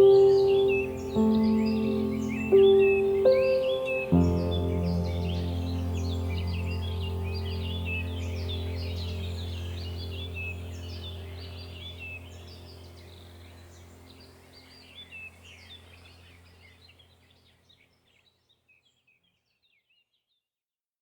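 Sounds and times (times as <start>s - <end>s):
steady low hum: 0.0s - 17.3s
birds chirping and trilling: 0.0s - 20.4s.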